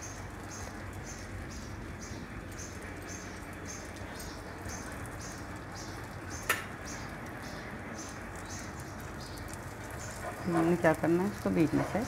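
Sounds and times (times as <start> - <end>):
omelette sizzling on a griddle: 0.0 - 12.0.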